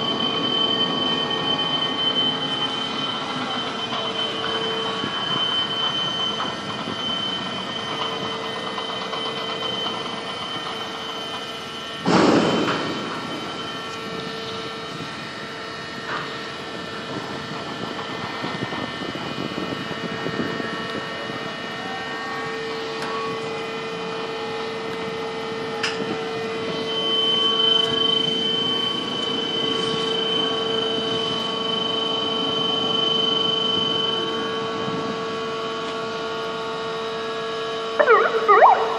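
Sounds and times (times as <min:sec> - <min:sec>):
crane machinery humming: 0:00.0 - 0:38.9
high mechanical whine: 0:00.0 - 0:38.9.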